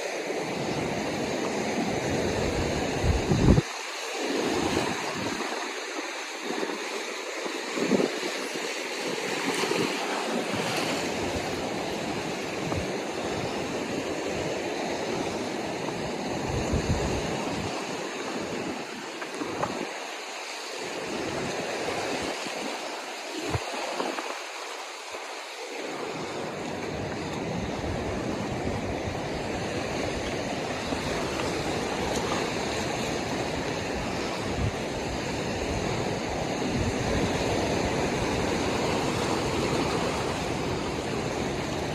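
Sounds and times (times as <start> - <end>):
ocean surf washing ashore: 0.0 - 41.9
wind gusting on microphone: 0.3 - 24.8, 25.5 - 41.9.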